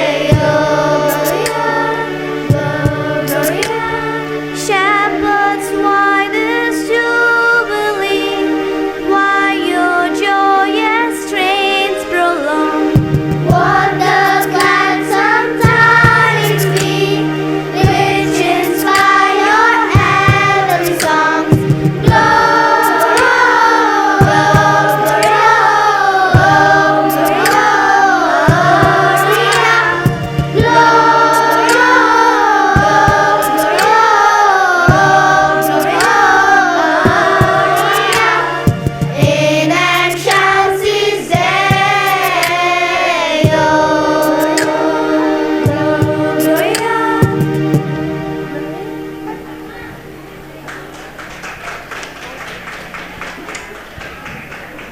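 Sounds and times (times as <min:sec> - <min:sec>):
choir singing in harmony: 0:00.0 - 0:51.2.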